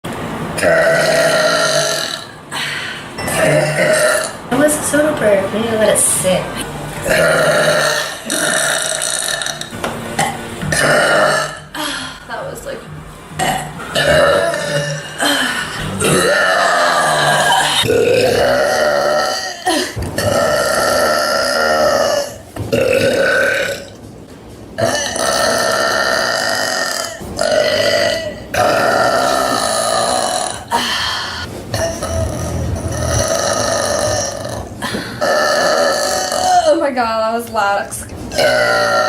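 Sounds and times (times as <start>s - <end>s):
woman burping: 0.6s - 4.4s, 7.0s - 12.3s, 13.4s - 24.0s, 24.8s - 37.0s, 38.3s - 39.0s.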